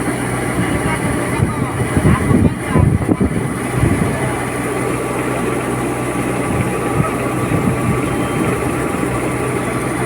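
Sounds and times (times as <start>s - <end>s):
harvesting machine engine droning: 0.0s - 10.0s.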